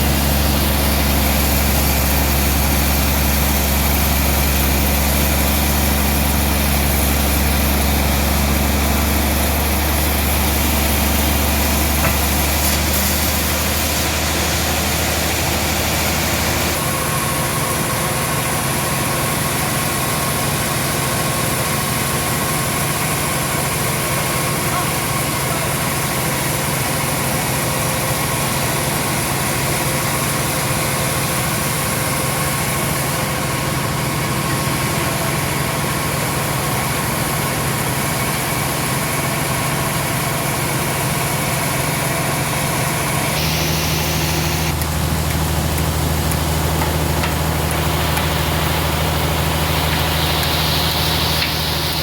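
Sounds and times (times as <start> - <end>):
large engine humming: 0.0 - 52.0.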